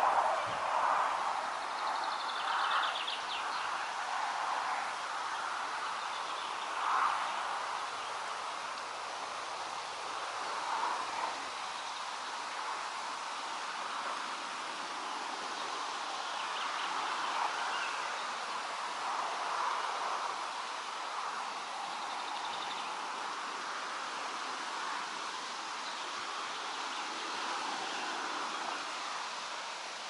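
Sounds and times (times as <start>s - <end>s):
wind rustling leaves: 0.0s - 30.0s.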